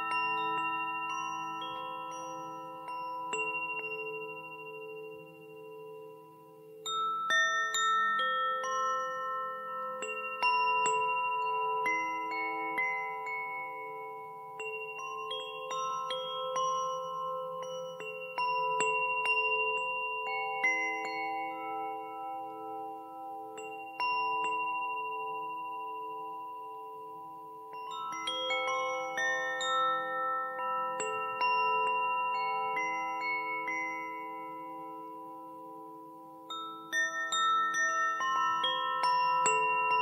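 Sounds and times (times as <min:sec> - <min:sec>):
wind chimes ringing: 0:00.0 - 0:40.0.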